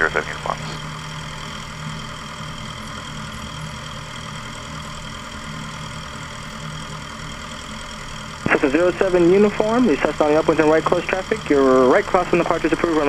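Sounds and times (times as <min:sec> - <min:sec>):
propeller engine running: 0:00.0 - 0:13.0.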